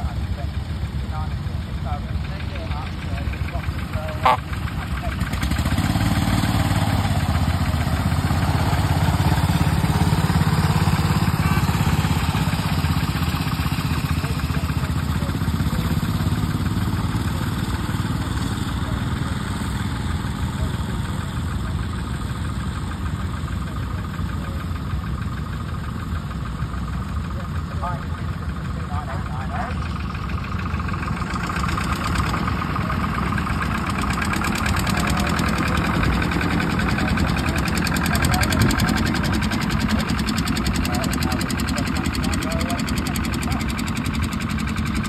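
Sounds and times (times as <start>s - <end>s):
rail tractor engines chugging: 0.0s - 45.0s.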